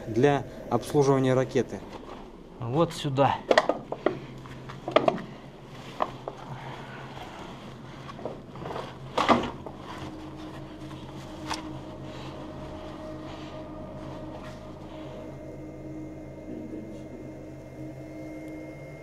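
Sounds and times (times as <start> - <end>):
steady low drone: 0.0 - 19.0.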